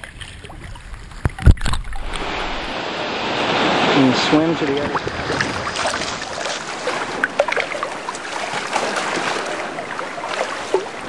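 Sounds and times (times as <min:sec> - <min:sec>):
water splashing from swimming: 0:00.0 - 0:11.0.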